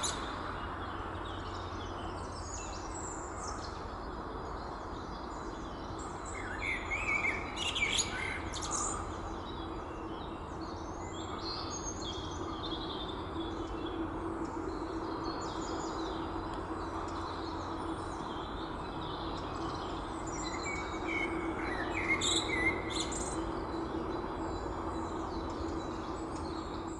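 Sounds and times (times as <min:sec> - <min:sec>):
steady low hum: 0:00.0 - 0:26.9
blackbird singing: 0:05.0 - 0:26.9.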